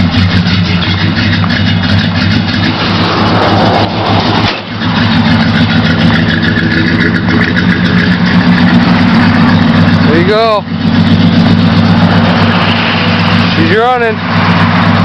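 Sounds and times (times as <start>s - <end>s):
v eight engine running: 0.0s - 15.0s.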